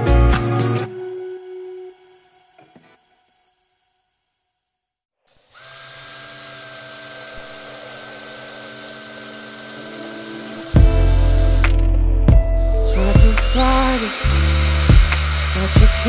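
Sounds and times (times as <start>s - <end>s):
small electric drill whining: 1.0s - 11.7s, 12.6s - 16.0s.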